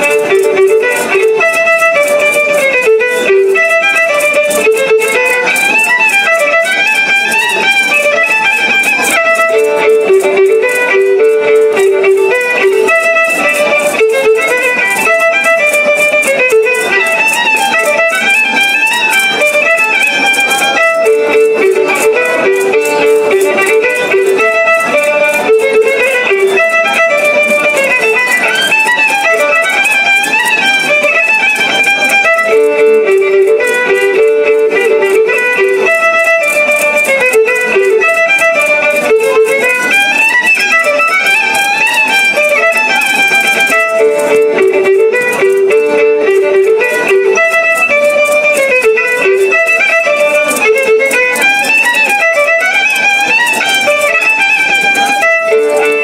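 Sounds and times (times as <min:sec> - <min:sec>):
plucked string accompaniment: 0:00.0 - 0:56.0
violin melody: 0:00.0 - 0:56.0.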